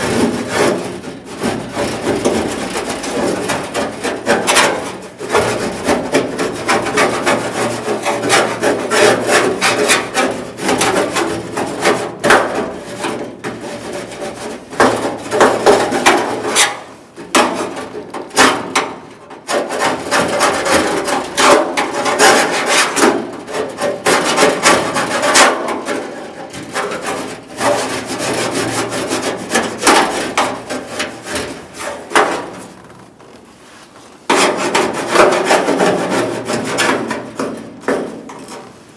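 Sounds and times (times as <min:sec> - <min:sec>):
hand tool scraping steel panel: 0:00.0 - 0:38.9.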